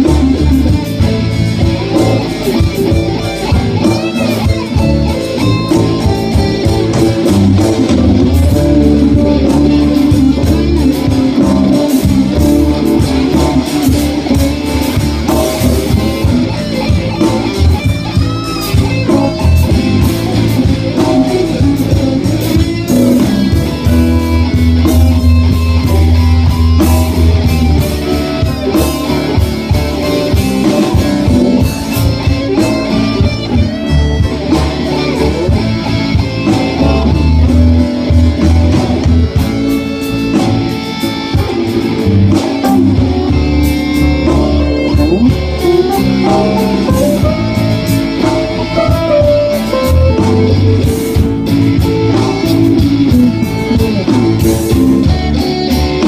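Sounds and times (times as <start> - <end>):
deep bass line: 0.0 - 56.0
drums: 0.0 - 56.0
electric guitars: 0.0 - 56.0.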